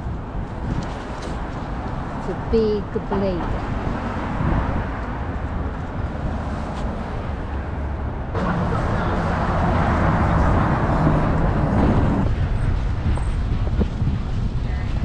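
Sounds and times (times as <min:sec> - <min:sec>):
passing vehicles rumble: 0:00.0 - 0:15.0.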